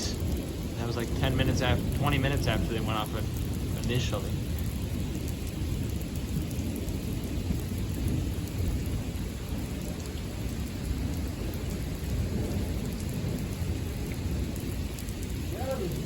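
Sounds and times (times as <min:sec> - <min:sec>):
heavy rain: 0:00.0 - 0:16.0
low rumble of thunder: 0:00.0 - 0:16.0.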